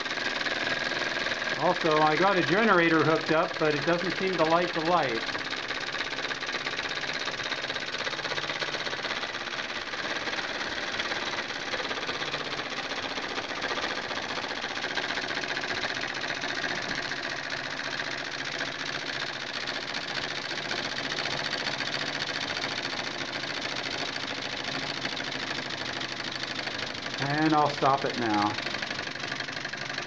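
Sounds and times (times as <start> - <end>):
miniature steam engine chuffing: 0.0 - 30.0.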